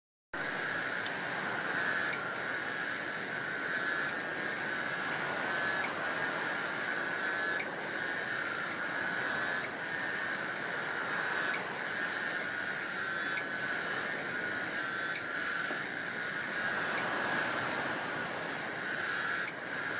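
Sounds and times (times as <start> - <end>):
cicadas singing: 0.4 - 19.9.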